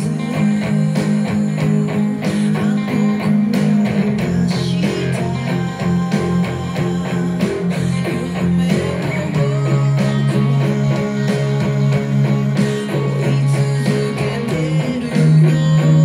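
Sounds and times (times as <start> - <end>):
drums: 0.0 - 16.0
electric guitar rock riff: 0.0 - 16.0
sustained bass notes: 0.0 - 16.0.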